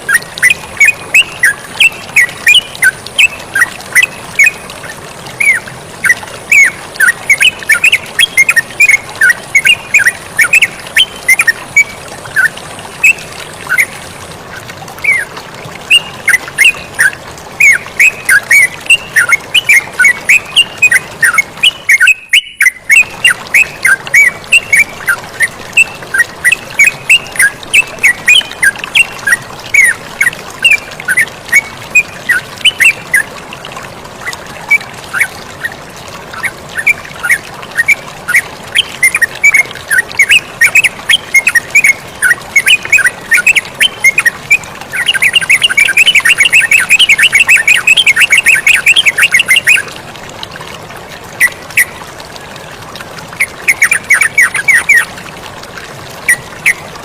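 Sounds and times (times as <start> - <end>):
bird singing bubbly notes: 0.0 - 57.0
flowing water rushing: 0.0 - 57.0.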